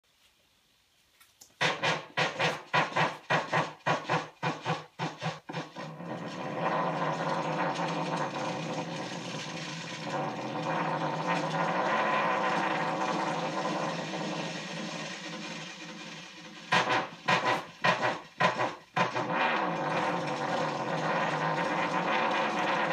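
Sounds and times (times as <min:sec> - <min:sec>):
machine pulsing and whirring: 0:01.6 - 0:22.9.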